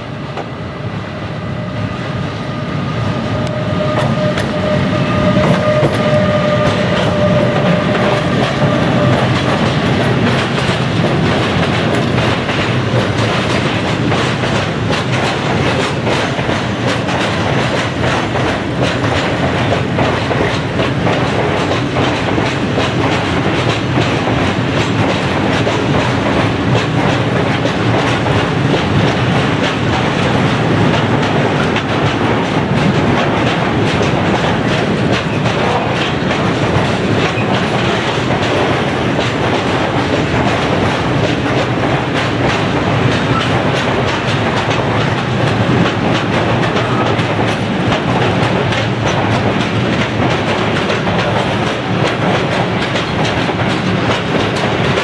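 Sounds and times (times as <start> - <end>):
freight train rumbling past: 0.0 - 55.0
wheels clattering over rail joints: 5.4 - 55.0.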